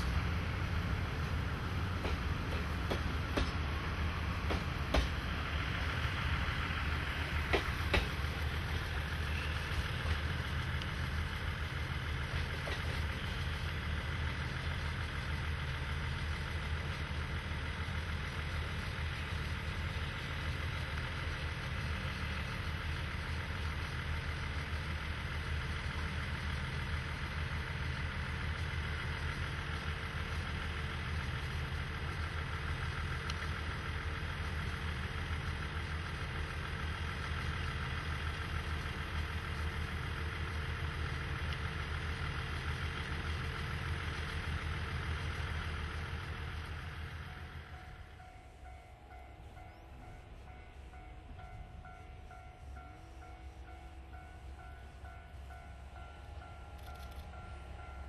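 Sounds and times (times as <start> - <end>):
diesel locomotive engine rumble: 0.0 - 58.0
train coaches running noise: 0.0 - 58.0.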